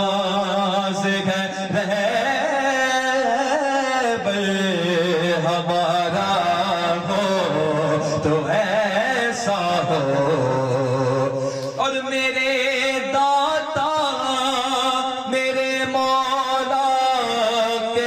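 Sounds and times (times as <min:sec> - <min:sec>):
man singing through a microphone: 0:00.0 - 0:18.0.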